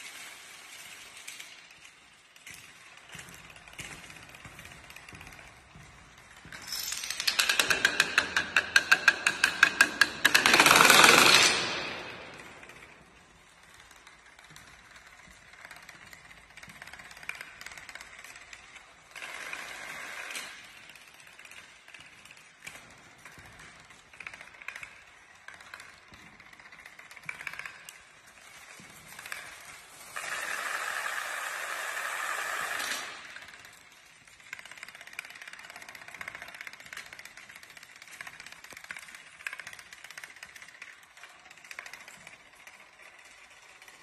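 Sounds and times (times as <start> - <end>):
dominoes toppling clatter: 0.0 - 44.0.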